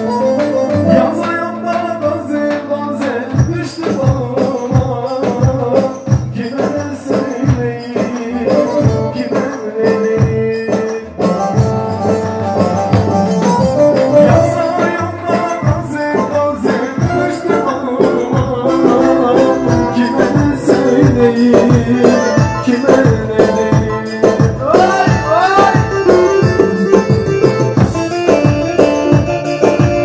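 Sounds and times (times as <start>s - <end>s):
frame drum struck in steady rhythm: 0.0s - 30.0s
pitched melody line: 0.0s - 30.0s.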